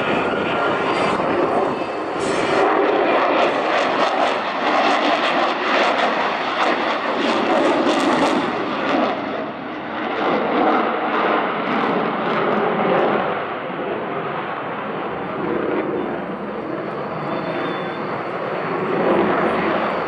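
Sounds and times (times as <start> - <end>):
jet fighter engine roar: 0.0 - 20.0.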